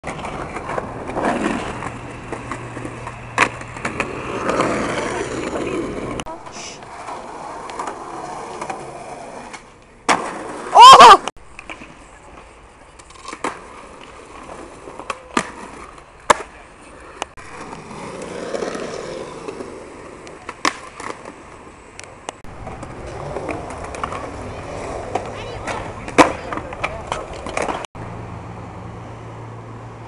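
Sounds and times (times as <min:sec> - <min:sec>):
skateboard clacking on concrete: 0:00.0 - 0:10.6, 0:11.5 - 0:27.9
skateboard wheels rolling: 0:00.0 - 0:27.9.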